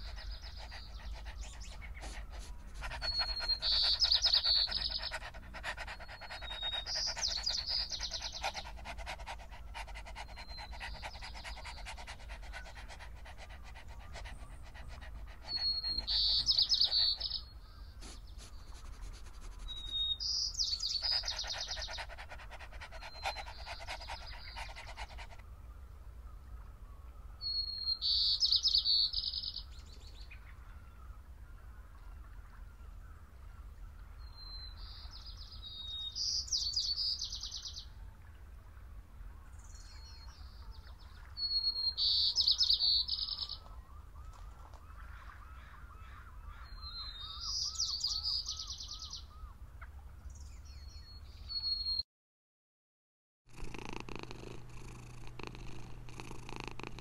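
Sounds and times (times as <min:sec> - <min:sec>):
songbird song with trill: 0:00.0 - 0:38.0, 0:39.4 - 0:52.0.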